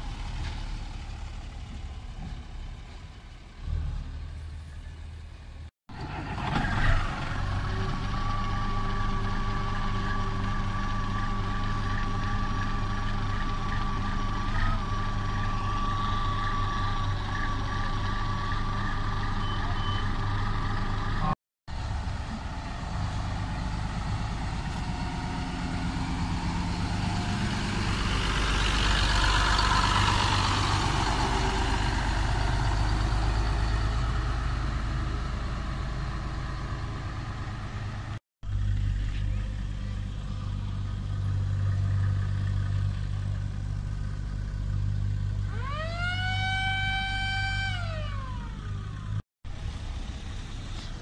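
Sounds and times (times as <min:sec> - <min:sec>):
bus driving past: 0:00.0 - 0:51.0
bus diesel engine idling: 0:07.1 - 0:51.0.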